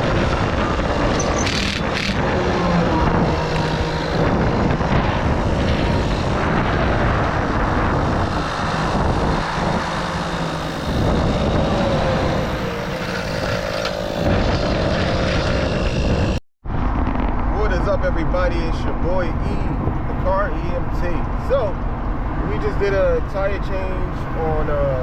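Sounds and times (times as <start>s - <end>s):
highway traffic rushing past: 0.0s - 25.0s.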